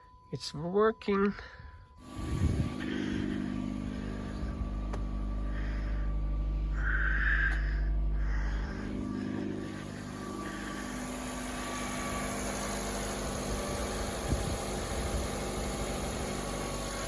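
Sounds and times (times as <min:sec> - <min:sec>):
car engine idling: 0:02.0 - 0:17.0.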